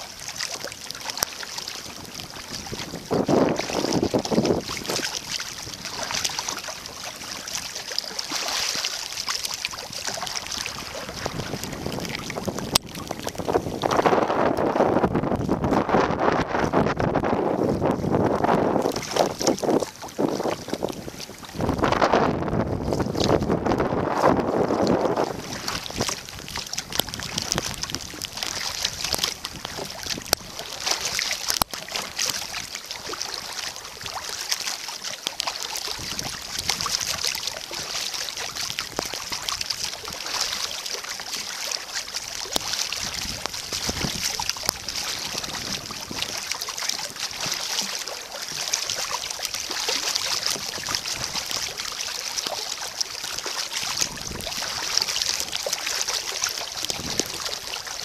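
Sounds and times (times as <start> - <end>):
water splashing around a paddled kayak: 0.0 - 58.0.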